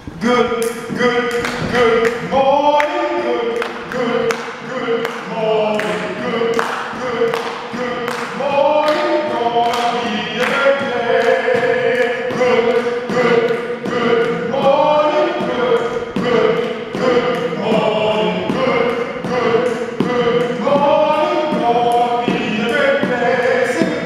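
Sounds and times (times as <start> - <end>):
a cappella singing: 0.2 - 24.0
percussive hits: 0.6 - 24.0.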